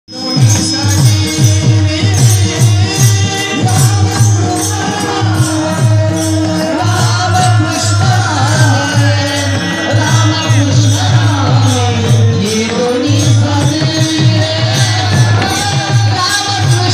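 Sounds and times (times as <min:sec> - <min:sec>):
man singing: 0:00.1 - 0:16.9
drum beat: 0:00.2 - 0:16.9.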